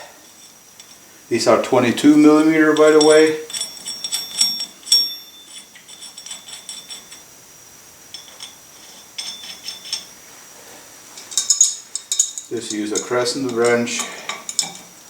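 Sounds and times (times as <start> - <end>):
metal lug nuts clinking: 0.2 - 7.4, 8.1 - 10.3, 11.1 - 15.0.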